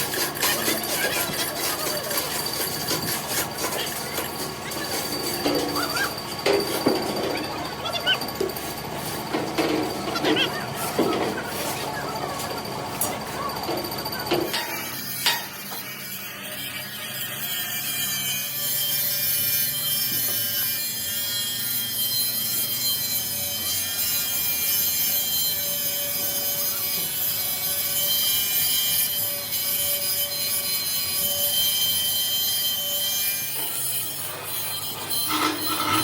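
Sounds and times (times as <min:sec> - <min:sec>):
power tool grinding steel: 0:00.0 - 0:36.0.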